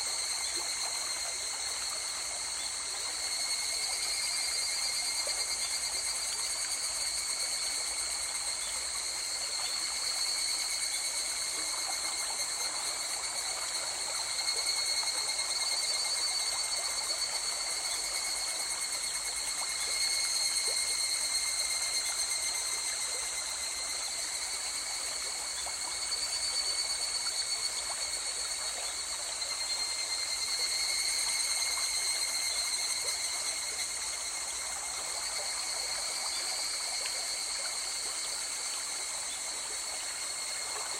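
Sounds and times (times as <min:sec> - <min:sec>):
night insects chorus: 0:00.0 - 0:40.9.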